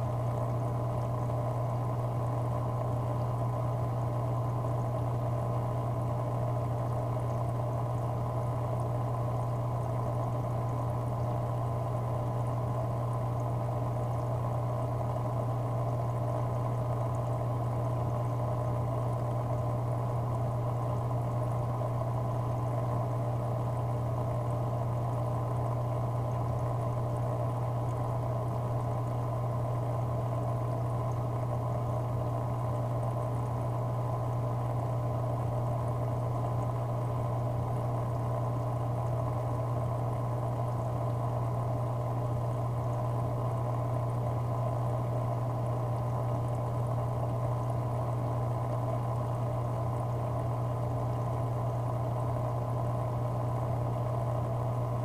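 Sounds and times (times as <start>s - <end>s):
aquarium equipment hum: 0.0s - 55.0s
bubbling water: 0.0s - 55.0s.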